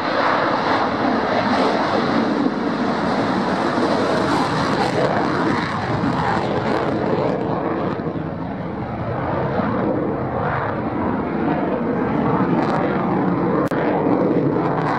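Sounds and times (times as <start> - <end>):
jet engine roaring: 0.0 - 14.9.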